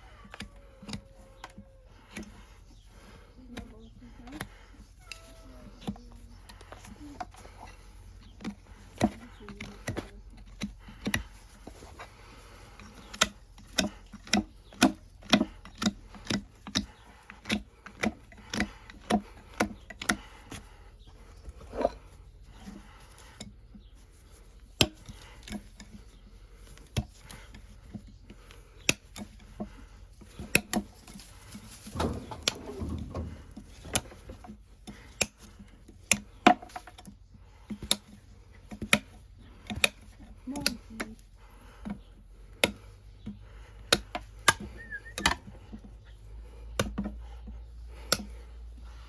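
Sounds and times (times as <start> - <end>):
hand tools clicking on hoof: 0.0 - 49.0.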